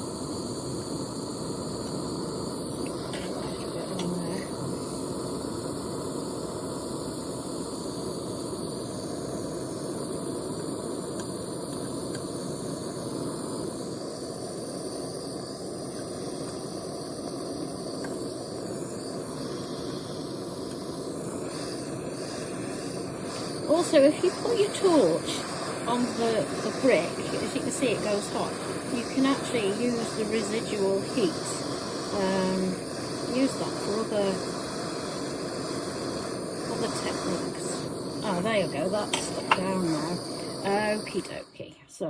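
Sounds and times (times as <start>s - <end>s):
gas torch flame rushing: 0.0s - 41.6s.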